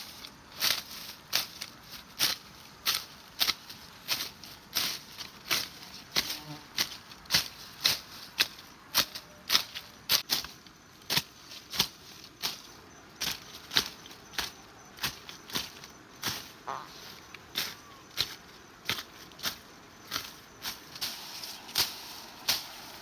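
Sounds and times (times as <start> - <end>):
crunching footsteps: 0.0 - 23.0.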